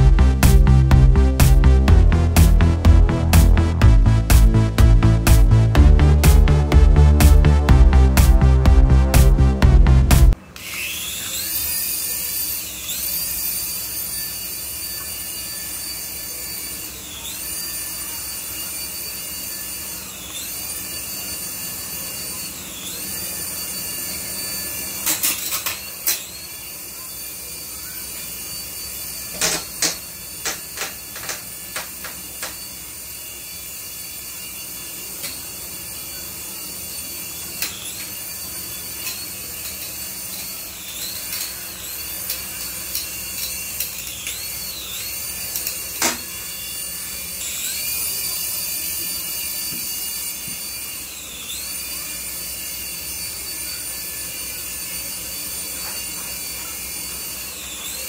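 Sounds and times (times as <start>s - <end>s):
toy helicopter motors whining: 0.0s - 58.0s.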